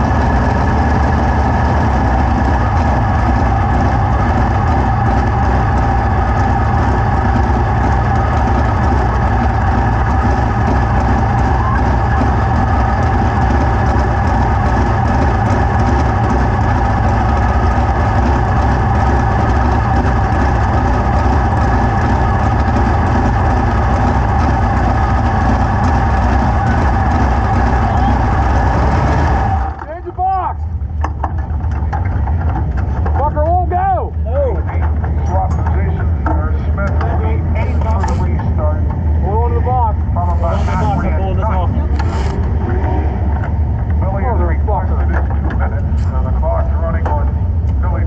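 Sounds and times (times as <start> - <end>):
engine droning steadily: 0.0 - 48.0.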